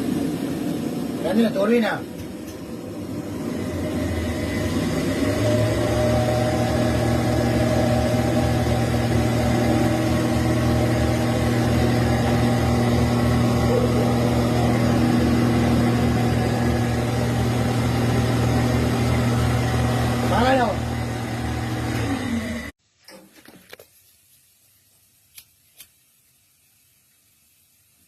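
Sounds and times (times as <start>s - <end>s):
gas burner rumbling: 0.0s - 22.7s.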